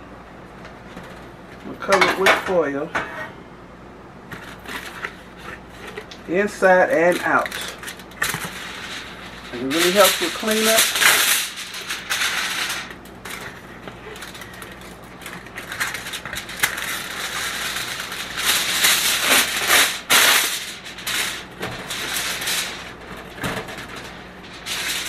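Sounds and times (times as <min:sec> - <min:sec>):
aluminum foil crinkling: 0:04.3 - 0:25.0.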